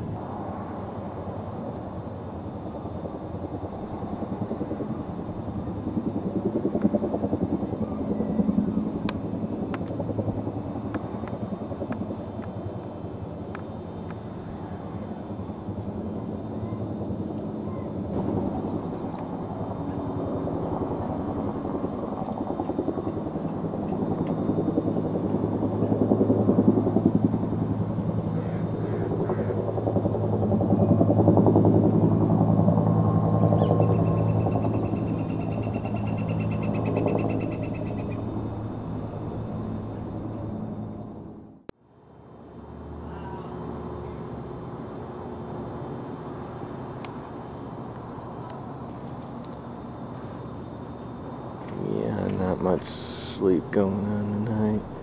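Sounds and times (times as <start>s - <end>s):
helicopter rotors pulsing: 0.0s - 41.6s, 43.8s - 55.0s
steady low hum: 0.0s - 55.0s.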